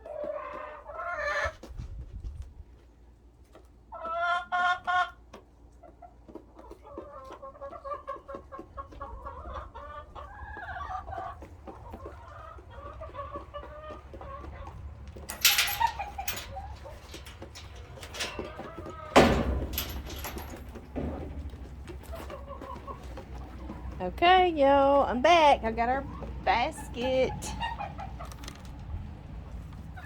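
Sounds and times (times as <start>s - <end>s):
hens clucking: 0.0s - 1.8s, 3.4s - 30.0s.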